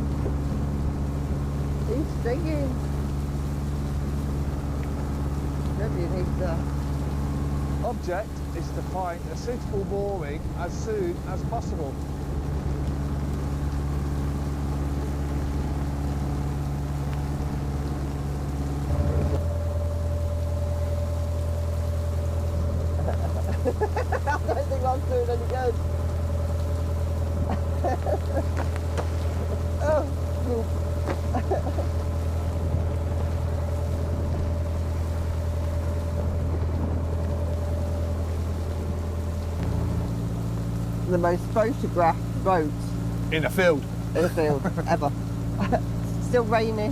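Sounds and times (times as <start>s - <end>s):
boat diesel engine droning: 0.0s - 46.9s
faint steady whine: 0.0s - 46.9s.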